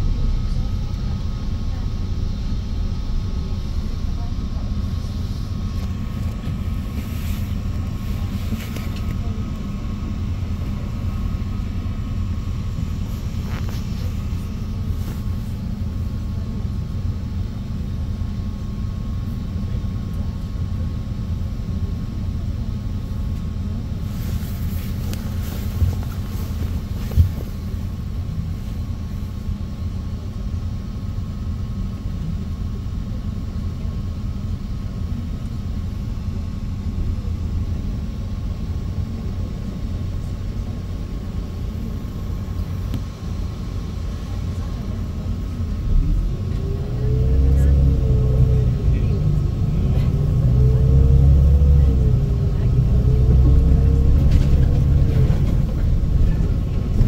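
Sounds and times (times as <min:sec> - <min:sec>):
bus rumbling in motion: 0:00.0 - 0:57.0.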